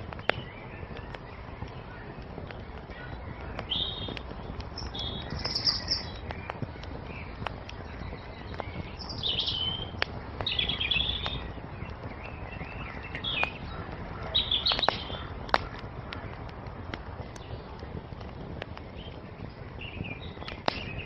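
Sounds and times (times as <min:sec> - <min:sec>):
songbirds chirping: 0:00.0 - 0:21.0
wood fire crackling: 0:00.0 - 0:21.0.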